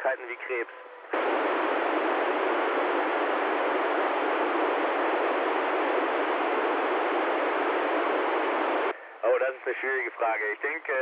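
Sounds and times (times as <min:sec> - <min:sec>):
radio receiver static hiss: 0:00.0 - 0:11.0.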